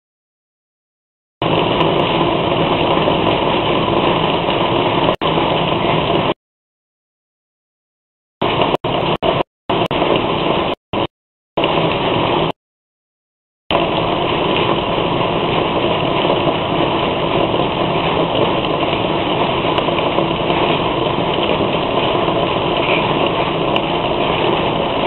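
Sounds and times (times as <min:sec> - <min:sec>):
rain pouring and splashing: 0:01.4 - 0:06.4, 0:08.4 - 0:12.6, 0:13.7 - 0:25.0.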